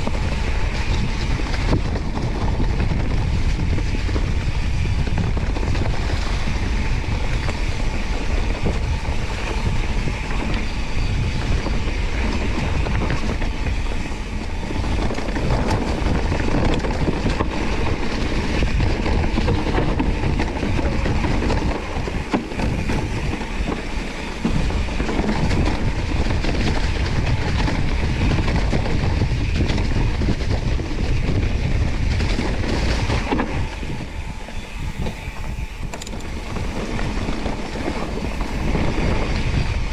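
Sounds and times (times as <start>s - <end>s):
bike rattling over bumps: 0.0s - 39.9s
bike tyres rolling on dirt: 0.0s - 39.9s
wind rumble on microphone: 0.0s - 39.9s.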